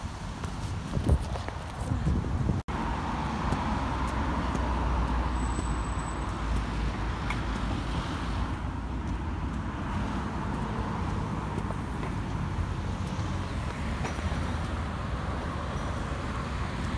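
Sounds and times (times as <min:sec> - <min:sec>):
road traffic rumble: 0:00.0 - 0:16.9.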